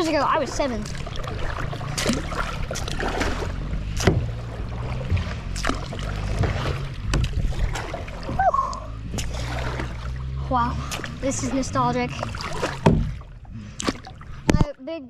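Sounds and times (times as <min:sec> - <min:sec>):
low rumble: 0:00.0 - 0:14.7
paddle strokes splashing: 0:00.0 - 0:14.8.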